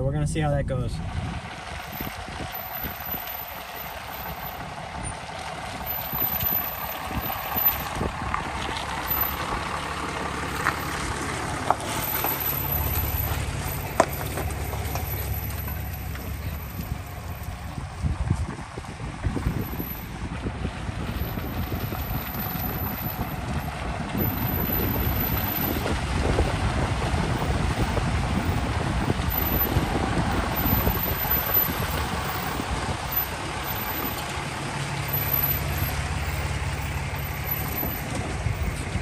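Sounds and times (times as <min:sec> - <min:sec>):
pickup truck engine at low speed: 0:00.2 - 0:39.0.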